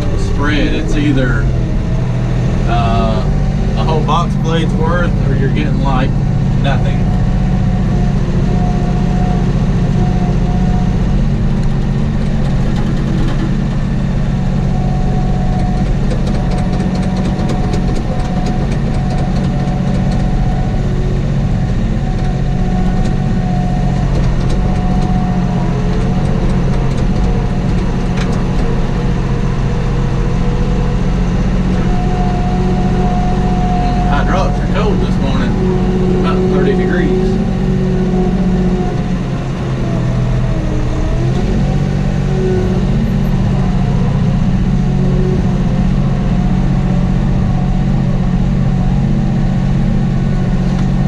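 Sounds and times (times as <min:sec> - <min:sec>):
high whine: 0:00.0 - 0:51.0
tractor diesel engine running: 0:00.0 - 0:51.0.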